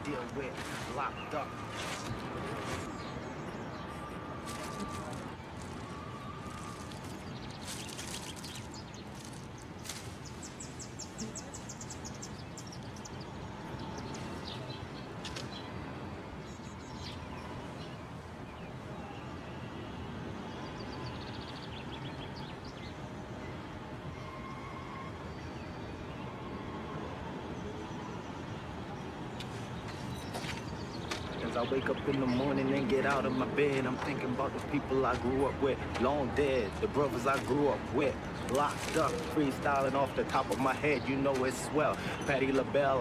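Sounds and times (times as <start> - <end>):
small birds chirping: 0.0 - 24.3, 27.1 - 43.0.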